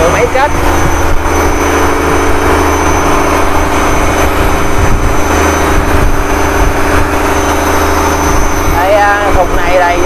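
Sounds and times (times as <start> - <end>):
boat engine humming: 0.0 - 10.0
water rushing: 0.0 - 10.0
wind: 0.0 - 10.0.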